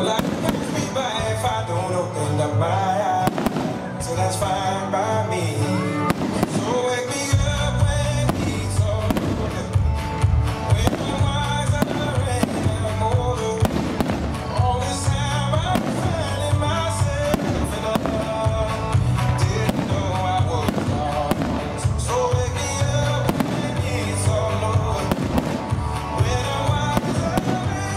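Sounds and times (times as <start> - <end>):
fireworks bursting and crackling: 0.0 - 2.2, 3.1 - 4.8, 6.0 - 27.9
music with heavy bass: 0.0 - 27.9.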